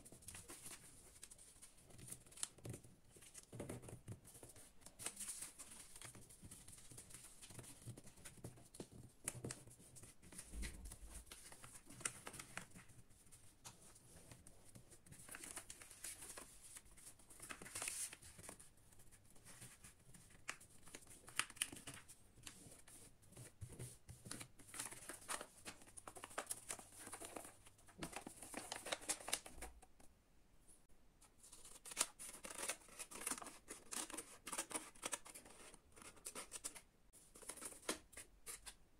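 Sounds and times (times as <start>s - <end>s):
paper rustling and crinkling: 0.0s - 29.9s, 31.4s - 38.8s.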